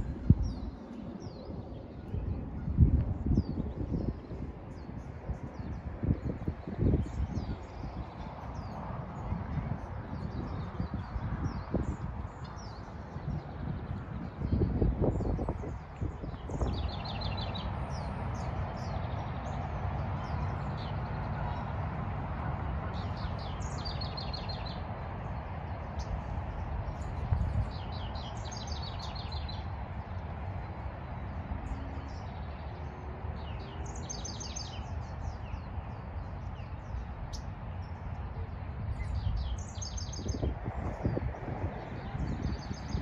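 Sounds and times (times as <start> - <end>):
songbirds chirping: 0.0 - 43.0.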